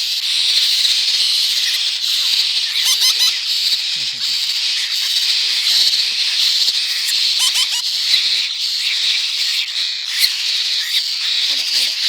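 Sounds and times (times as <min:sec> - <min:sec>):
baby birds begging chorus: 0:00.0 - 0:12.0
squeaky bird calls: 0:00.0 - 0:12.0.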